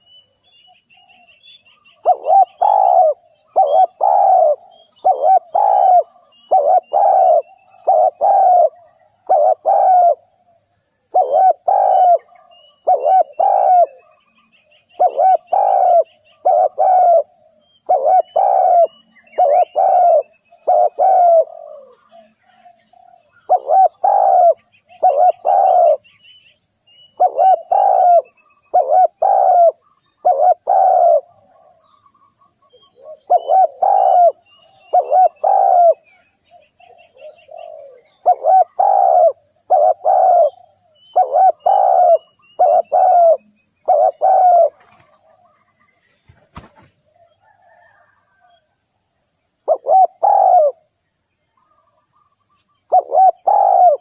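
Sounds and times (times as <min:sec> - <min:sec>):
small birds chirping: 0:00.0 - 0:48.7, 0:49.5 - 0:54.0
dove cooing: 0:00.9 - 0:26.1, 0:27.1 - 0:32.0, 0:32.6 - 0:48.6, 0:49.6 - 0:50.9, 0:52.9 - 0:54.0.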